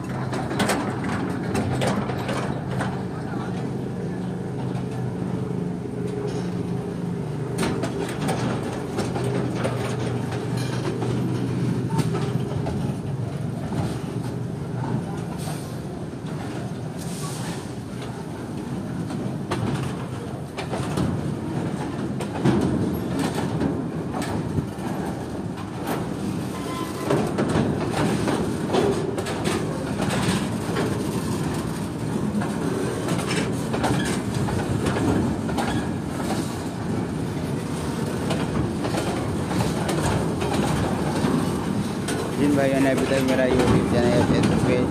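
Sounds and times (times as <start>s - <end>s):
freight train rumbling past: 0.0s - 44.9s
wheels clicking over rail joints: 0.0s - 44.9s.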